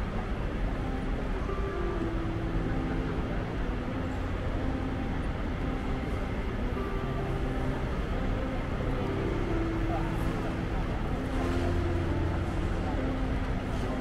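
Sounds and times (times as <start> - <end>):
indistinct voices overlapping: 0.0 - 14.0.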